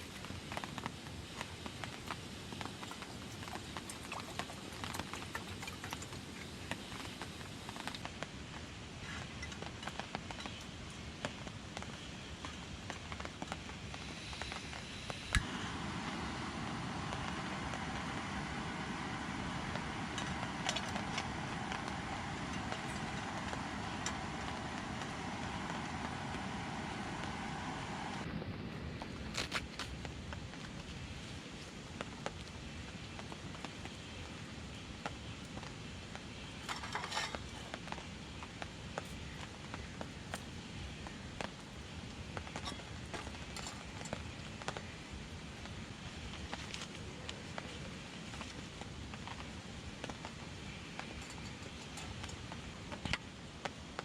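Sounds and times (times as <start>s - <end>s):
raindrops tapping close by: 0.0s - 28.3s, 28.9s - 54.0s
rain falling steadily: 0.0s - 54.0s.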